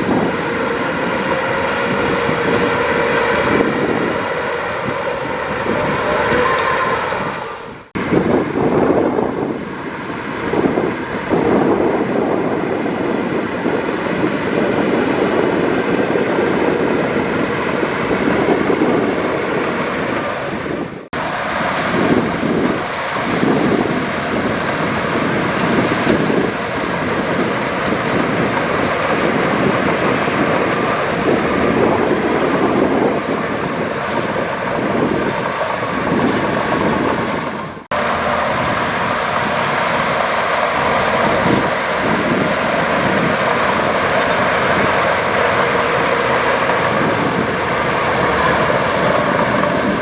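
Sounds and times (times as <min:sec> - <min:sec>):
heavy machinery diesel engines: 0:00.0 - 0:50.0.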